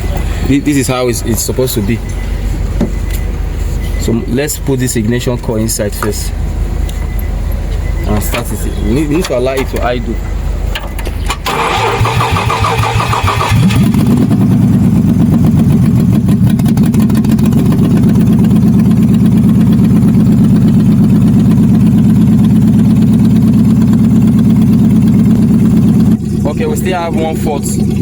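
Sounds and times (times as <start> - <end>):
engine cranking and idling: 0.0 - 28.0.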